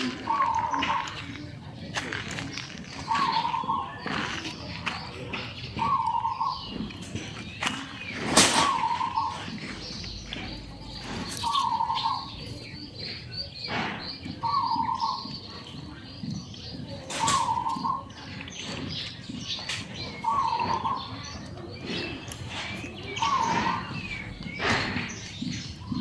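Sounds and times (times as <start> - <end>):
high bird chirping: 0.0 - 26.0.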